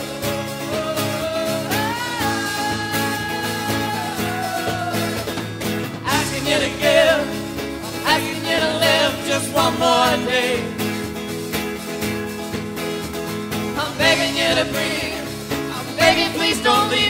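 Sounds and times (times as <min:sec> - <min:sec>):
person singing: 0:00.0 - 0:10.8, 0:13.8 - 0:17.0
guitar chords: 0:00.0 - 0:17.0.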